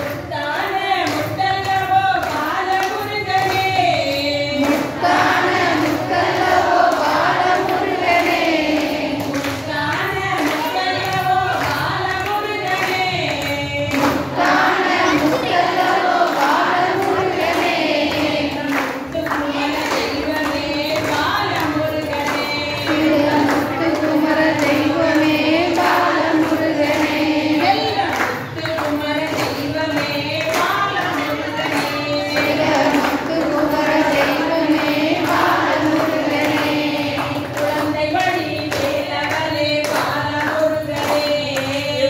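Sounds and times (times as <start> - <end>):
hand claps: 0.0 - 42.0
women singing in unison: 0.0 - 42.0.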